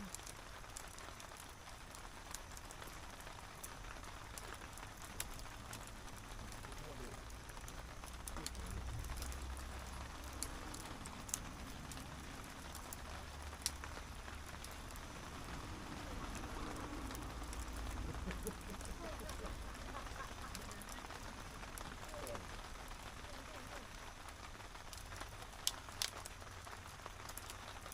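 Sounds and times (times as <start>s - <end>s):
campfire crackling and popping: 0.0s - 27.9s
steady rain falling: 0.0s - 27.9s.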